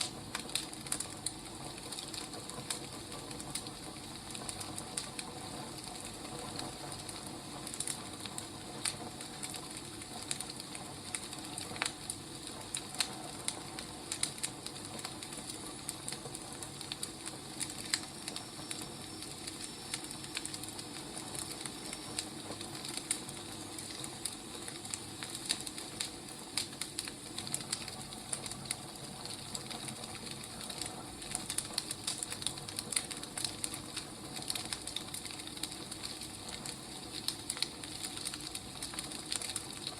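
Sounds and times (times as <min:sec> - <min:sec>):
firewood crackling and popping: 0:00.0 - 0:39.9
fire hissing: 0:02.7 - 0:39.9.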